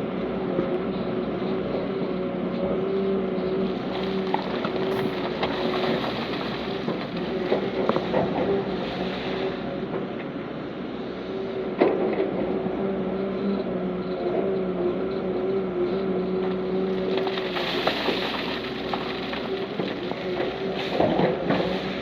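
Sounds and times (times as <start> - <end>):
diesel machinery engine hum: 0.0 - 22.0.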